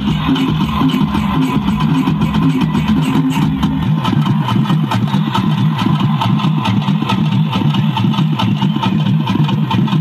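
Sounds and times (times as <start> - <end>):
fast pulsing rhythm: 0.0 - 10.0.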